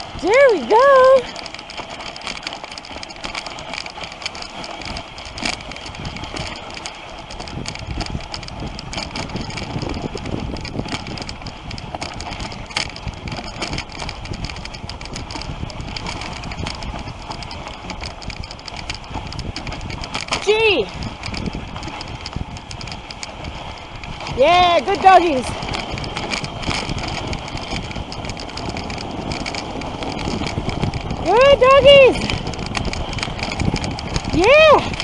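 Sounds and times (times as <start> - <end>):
sled clicking and knocking: 0.0 - 35.0
sled runners scraping on snow: 0.0 - 35.0.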